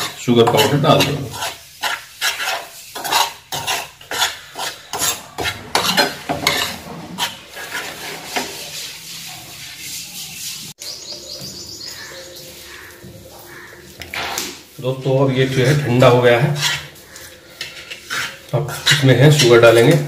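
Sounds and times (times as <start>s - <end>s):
spoon scraping in frying pan: 0.0s - 20.0s.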